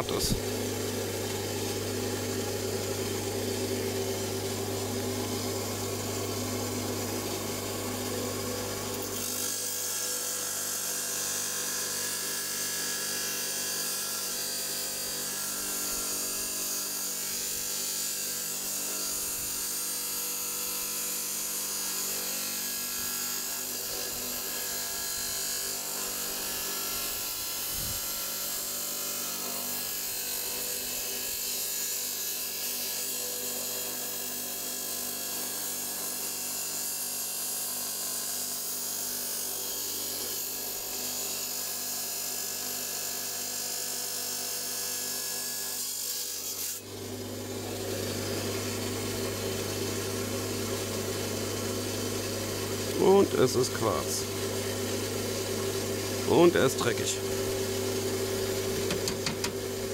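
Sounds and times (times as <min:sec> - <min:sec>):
electric rock saw cutting stone: 0:00.0 - 0:59.9.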